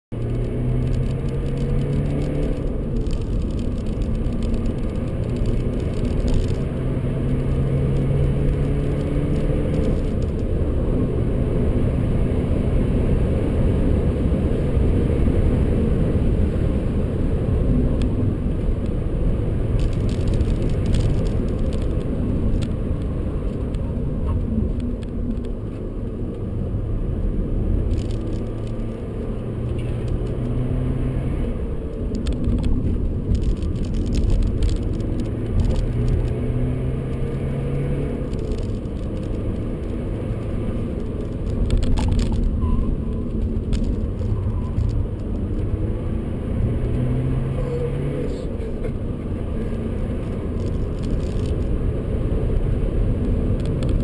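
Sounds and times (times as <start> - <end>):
car engine droning: 0.1 - 54.0
tyre and road rumble: 0.1 - 54.0.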